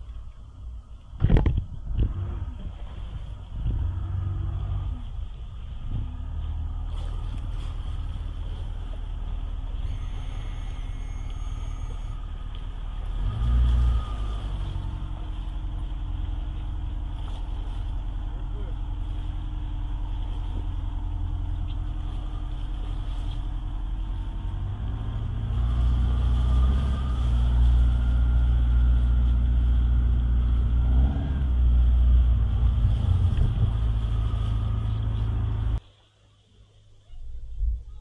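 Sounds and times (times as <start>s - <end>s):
engine running: 0.0s - 35.8s.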